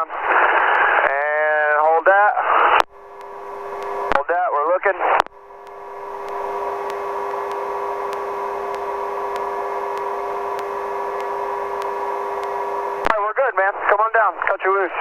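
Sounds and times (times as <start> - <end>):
helicopter engine and transmission whine: 0.0 - 14.9.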